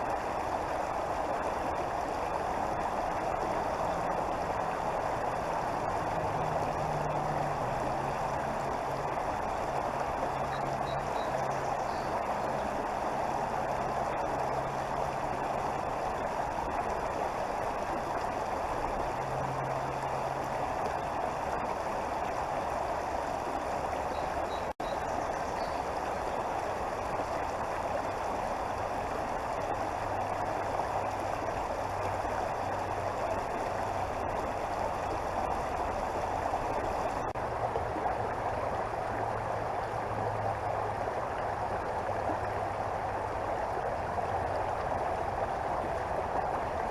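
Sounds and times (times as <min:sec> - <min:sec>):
water flowing over rocks: 0:00.0 - 0:46.9.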